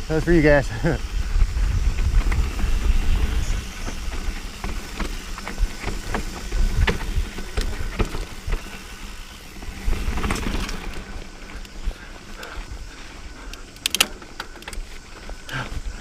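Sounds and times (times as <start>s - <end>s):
bike rattling: 0.0s - 16.0s
bike tyres rumbling on dirt: 0.0s - 16.0s.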